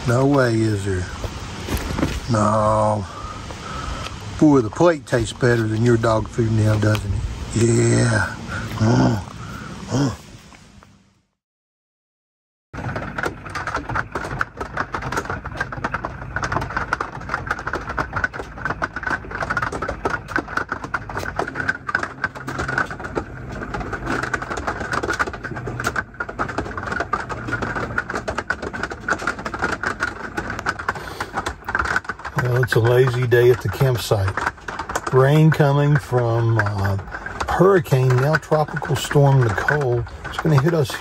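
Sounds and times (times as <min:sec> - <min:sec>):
heavy rain drumming on roof: 0:00.0 - 0:10.2, 0:12.8 - 0:41.0.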